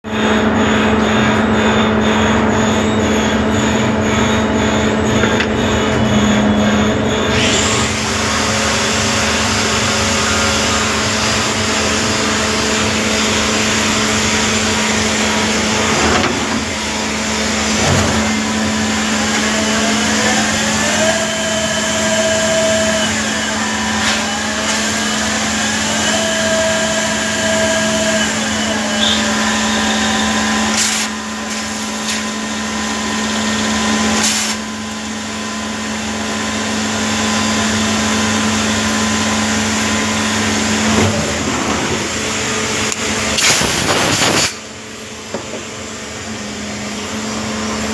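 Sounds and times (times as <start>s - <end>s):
machine tool motor humming: 0.5s - 44.6s.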